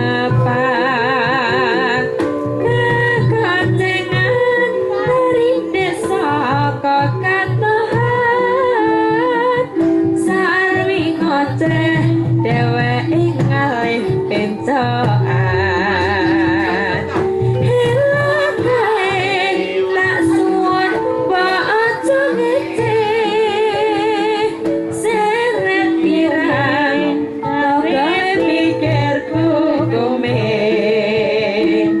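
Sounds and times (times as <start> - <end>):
gamelan ensemble: 0.0 - 32.0
woman singing with vibrato: 0.0 - 32.0.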